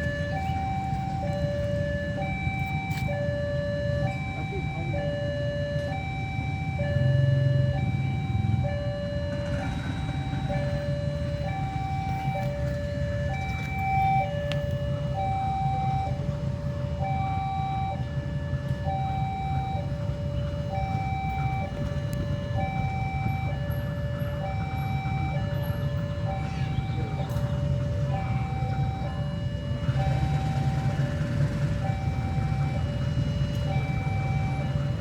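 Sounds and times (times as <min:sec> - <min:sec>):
level crossing two-tone alarm: 0:00.0 - 0:35.0.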